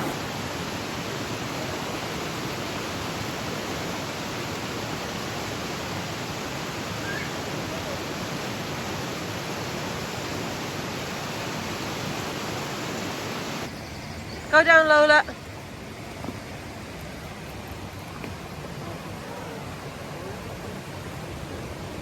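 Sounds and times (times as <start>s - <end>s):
river water over rocks: 0.0s - 22.0s.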